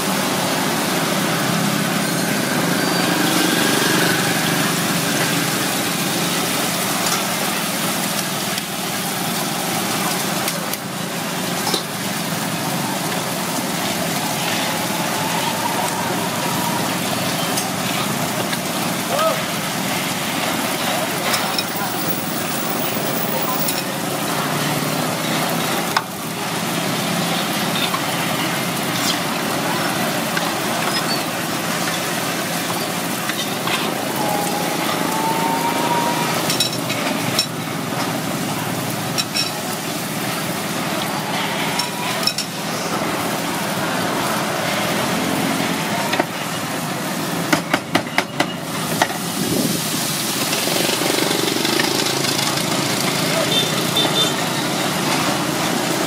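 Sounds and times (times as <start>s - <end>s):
food deep-frying in oil: 0.0s - 56.0s.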